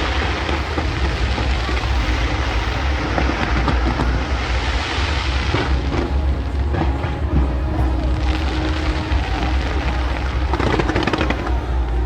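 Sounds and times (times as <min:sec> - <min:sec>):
fireworks deep rumble: 0:00.0 - 0:12.0.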